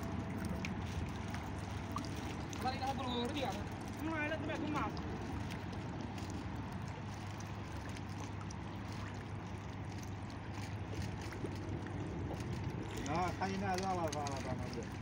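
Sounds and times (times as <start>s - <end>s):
continuous low hum: 0.0s - 15.0s
waterside noise wash: 0.0s - 15.0s.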